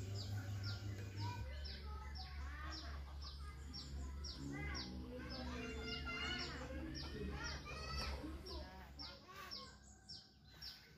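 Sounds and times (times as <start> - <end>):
birds chirping and singing: 0.0 - 10.9.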